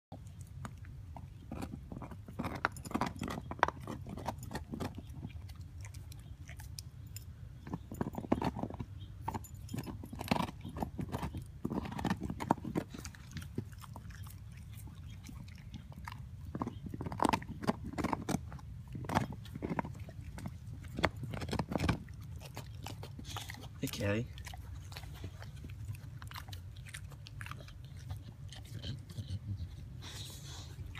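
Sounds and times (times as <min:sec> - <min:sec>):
dog chewing food: 0:00.1 - 0:30.9.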